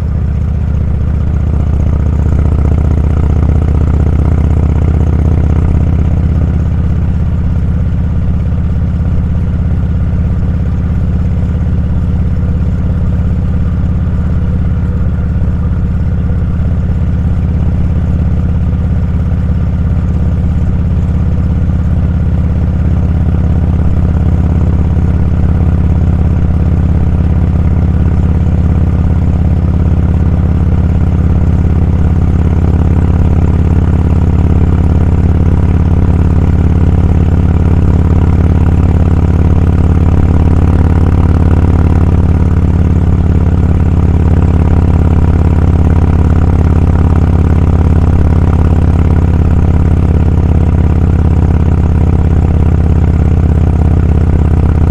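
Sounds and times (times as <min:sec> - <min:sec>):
motorcycle engine rumbling: 0:00.0 - 0:54.9.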